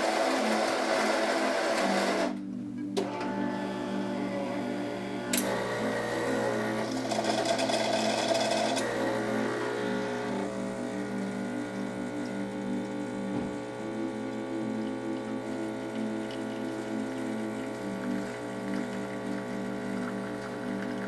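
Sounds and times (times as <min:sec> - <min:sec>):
espresso machine humming: 0:00.0 - 0:02.4, 0:03.1 - 0:21.0.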